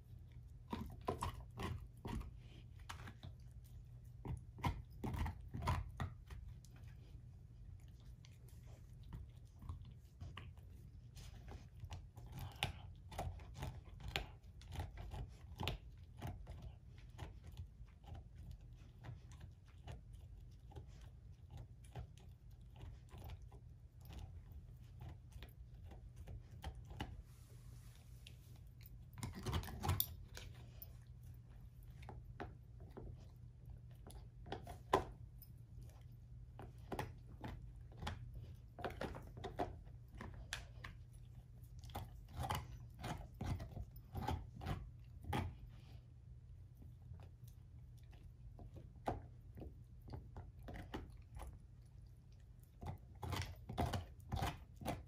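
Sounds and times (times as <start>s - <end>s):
dog chewing and crunching bone: 0.0s - 55.0s.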